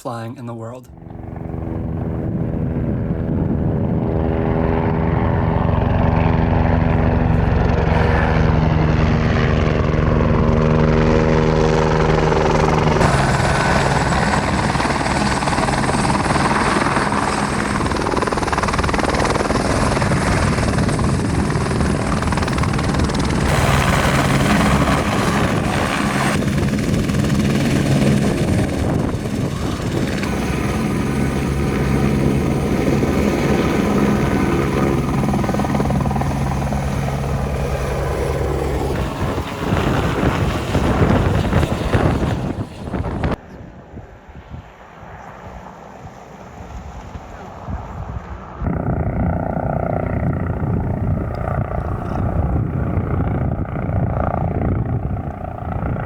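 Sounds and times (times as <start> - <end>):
helicopter engine and rotor: 0.9 - 56.0.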